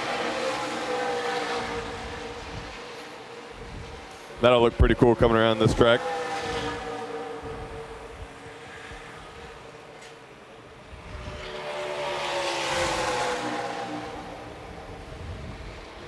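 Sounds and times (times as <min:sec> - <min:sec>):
racing car engine passing by: 0:00.0 - 0:16.0.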